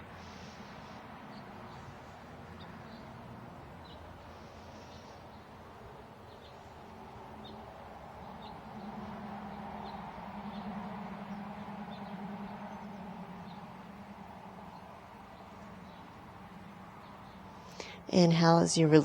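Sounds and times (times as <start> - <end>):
hummingbird wing hum: 0.0 - 19.0.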